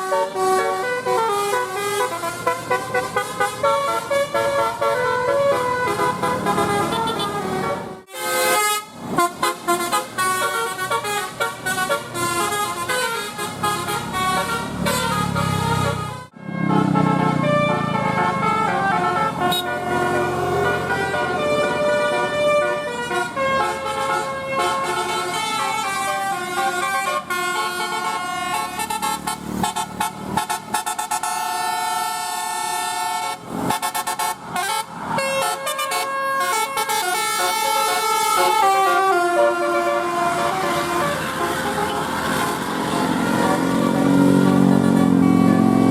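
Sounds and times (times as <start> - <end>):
multi-tone air horns playing tune: 0.0 - 45.9.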